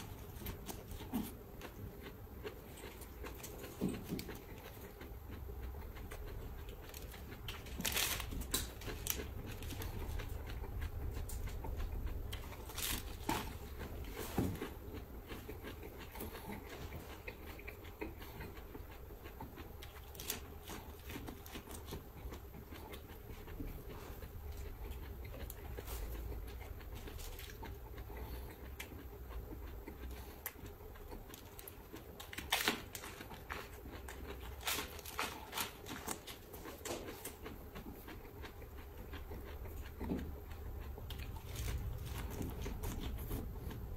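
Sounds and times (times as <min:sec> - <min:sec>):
man chewing lettuce: 0:00.0 - 0:43.9
steady low hum: 0:00.0 - 0:43.9.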